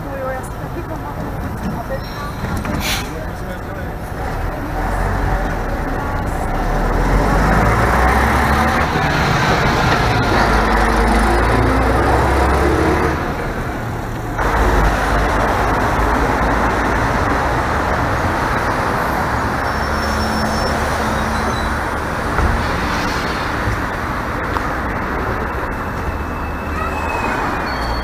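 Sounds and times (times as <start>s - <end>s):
bus engine rumble: 0.0s - 28.0s
road noise: 0.0s - 28.0s.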